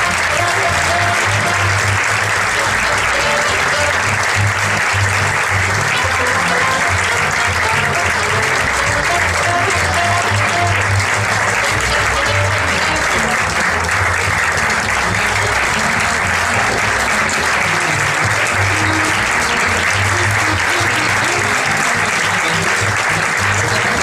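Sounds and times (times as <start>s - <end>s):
audience clapping: 0.0s - 24.0s.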